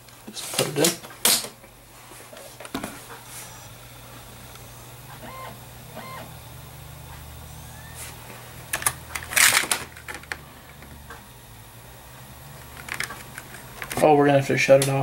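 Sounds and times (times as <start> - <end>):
disc drive humming: 0.0 - 15.0
drive motor whirs: 1.8 - 14.6.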